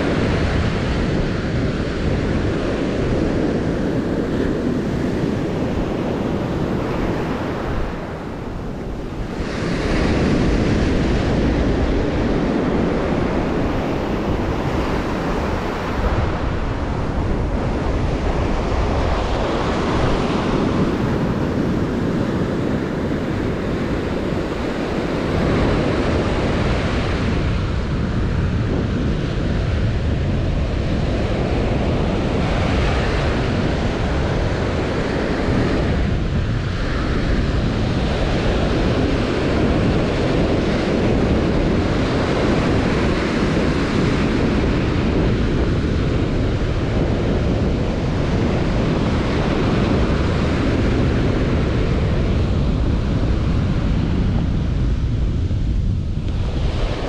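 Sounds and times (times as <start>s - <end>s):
waves washing up beach: 0.0s - 57.0s
wind rumbling on microphone: 0.0s - 57.0s.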